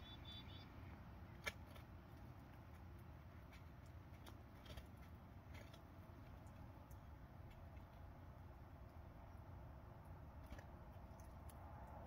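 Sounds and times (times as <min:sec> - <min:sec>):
faint outdoor hum: 0:00.0 - 0:12.0.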